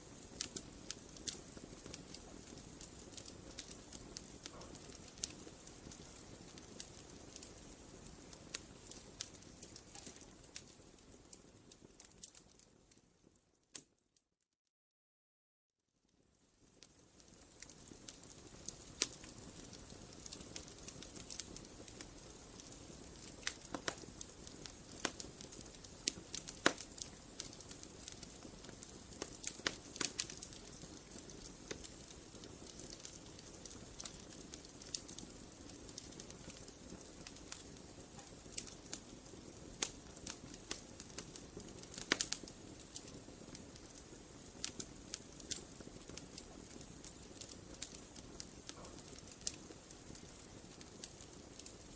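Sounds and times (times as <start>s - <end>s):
low hiss of burning: 0.0s - 14.0s, 16.0s - 51.9s
wood fire crackling: 0.0s - 14.0s, 16.1s - 51.9s.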